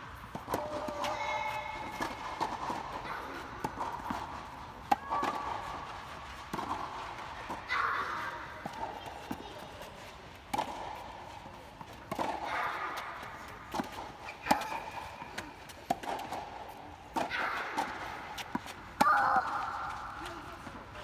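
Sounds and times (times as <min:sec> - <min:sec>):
tennis ball struck by rackets: 0:00.2 - 0:20.8
ball bouncing on clay court: 0:00.3 - 0:09.8, 0:10.4 - 0:20.8.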